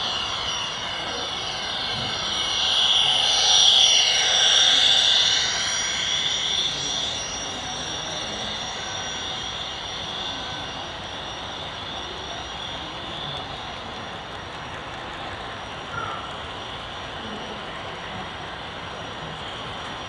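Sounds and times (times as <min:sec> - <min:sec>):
model locomotive turbine whine: 0:00.0 - 0:20.0.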